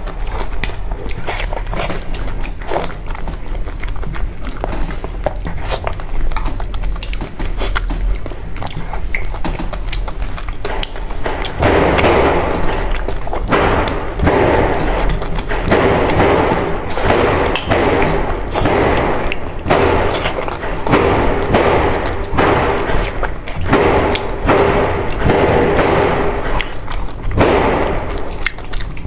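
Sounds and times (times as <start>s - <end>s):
person chewing sticky food: 0.0s - 29.0s
wet mouth clicks: 0.0s - 29.0s.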